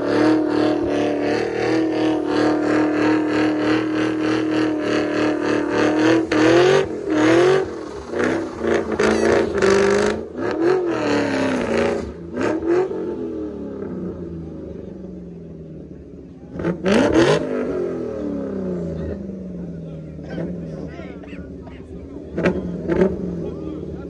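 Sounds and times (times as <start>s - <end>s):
car engine revving hard: 0.0s - 24.0s.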